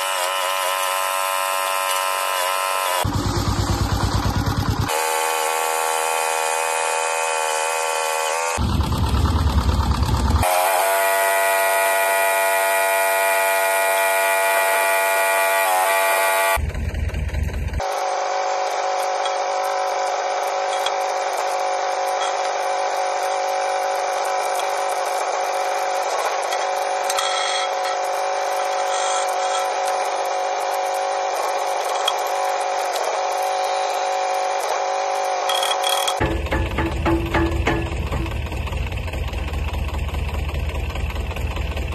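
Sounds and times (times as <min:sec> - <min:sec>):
hydraulic pump whine: 0:00.0 - 0:41.9.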